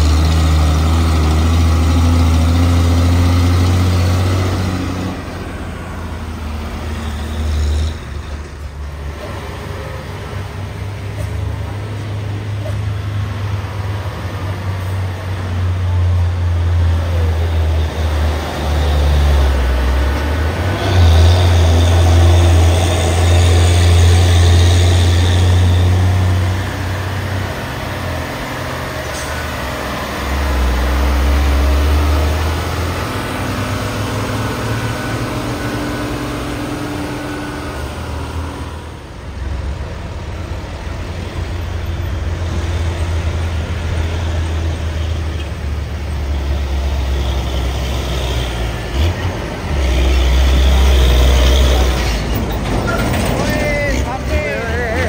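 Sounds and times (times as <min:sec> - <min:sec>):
diesel trucks passing: 0:00.0 - 0:55.0.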